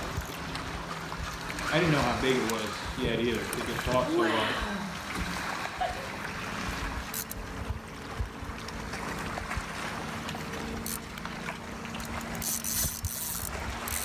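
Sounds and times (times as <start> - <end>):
water lapping against hull: 0.0 - 14.0
wind rumbling on microphone: 0.0 - 14.0.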